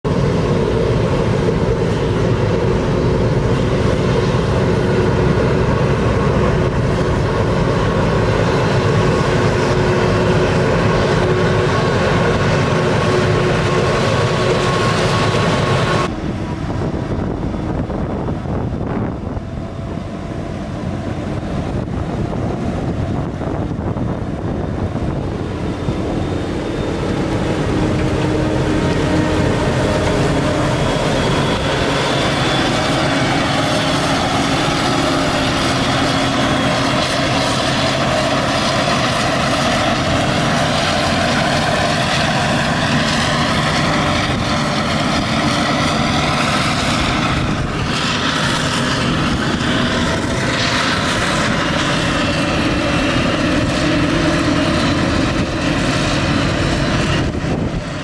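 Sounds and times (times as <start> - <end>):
forage harvester engine drone: 0.0 - 58.0
steady whine: 0.0 - 58.0
tractor driving: 0.0 - 58.0.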